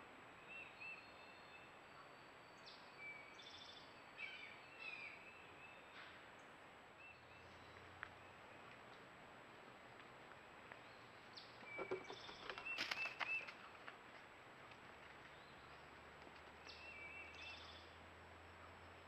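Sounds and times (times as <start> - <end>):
microphone hiss: 0.0 - 19.0.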